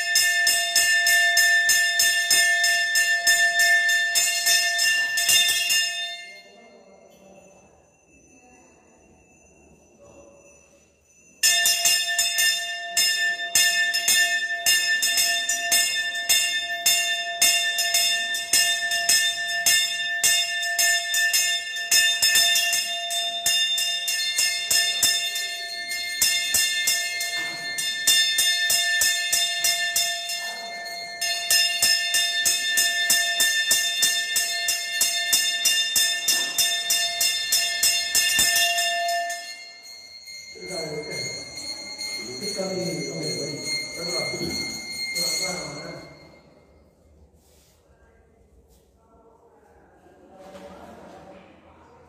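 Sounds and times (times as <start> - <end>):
hand bell ringing rapidly: 0.0 - 6.4, 10.4 - 46.4.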